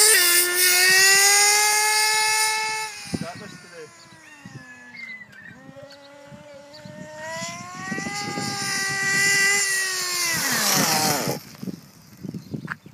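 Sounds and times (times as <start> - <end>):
model car engine revving: 0.0 - 11.9.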